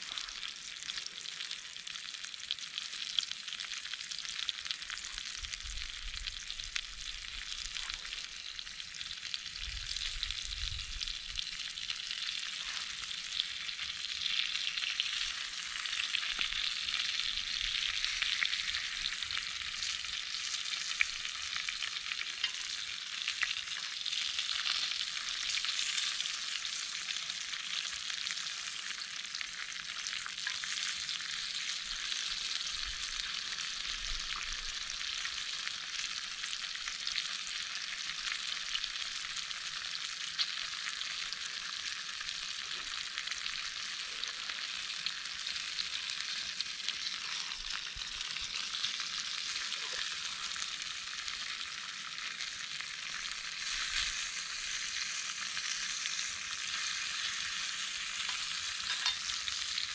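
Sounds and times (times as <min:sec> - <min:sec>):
food sizzling in a pan: 0:00.0 - 0:59.9.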